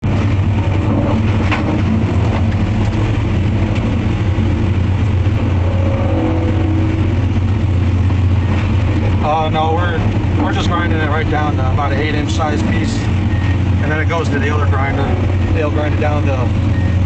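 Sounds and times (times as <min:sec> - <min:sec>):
wood grinder engine drone: 0:00.0 - 0:17.0.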